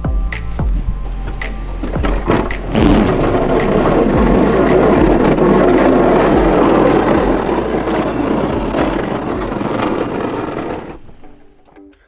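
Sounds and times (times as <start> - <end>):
truck engine running: 0.7 - 11.7
plow blade scraping snow: 0.8 - 11.6.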